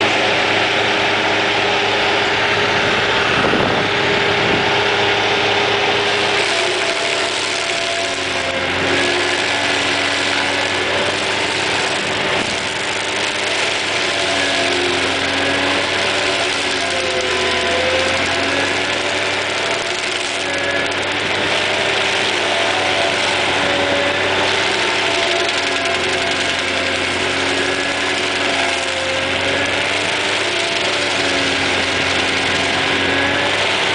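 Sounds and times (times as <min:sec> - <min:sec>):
stump grinder engine running: 0:00.0 - 0:33.9.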